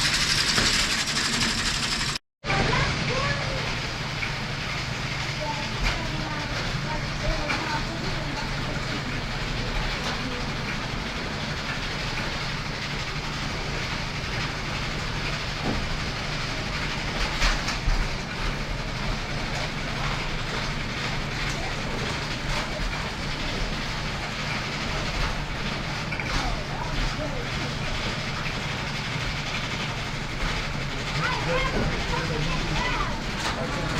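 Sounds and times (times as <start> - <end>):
farm machinery rattling: 0.0 - 2.2, 4.3 - 33.9.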